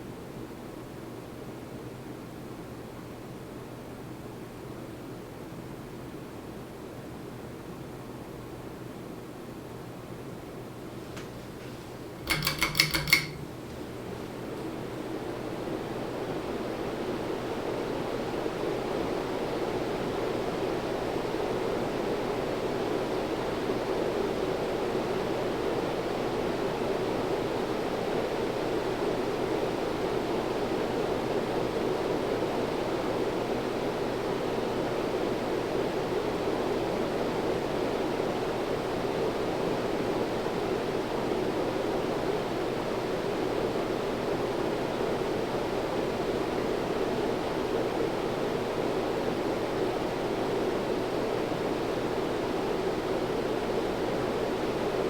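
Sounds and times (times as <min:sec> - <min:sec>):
ceiling fan air rush: 0:10.3 - 0:55.0.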